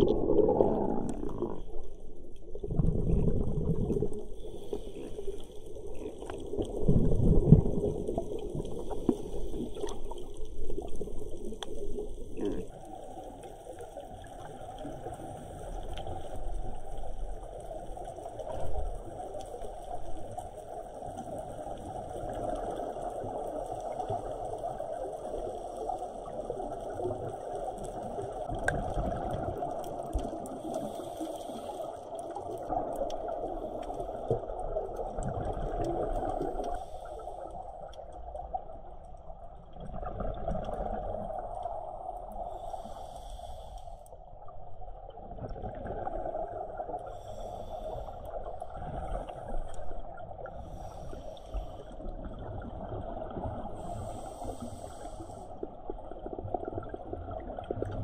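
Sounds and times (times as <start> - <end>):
scuba regulator bubbling and gurgling: 0.0 - 58.0.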